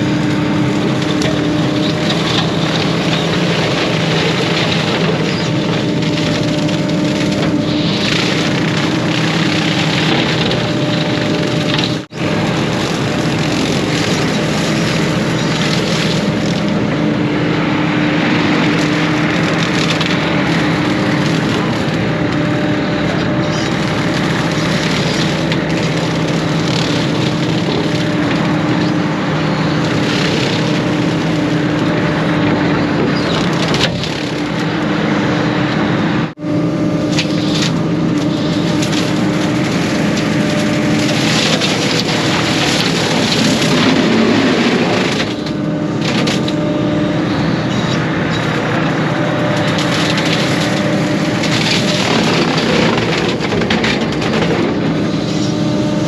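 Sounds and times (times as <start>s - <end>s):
woody cracking: 0.0s - 35.9s, 37.0s - 55.1s
excavator diesel engine: 0.0s - 56.0s
hydraulic brush cutter running: 0.0s - 56.0s.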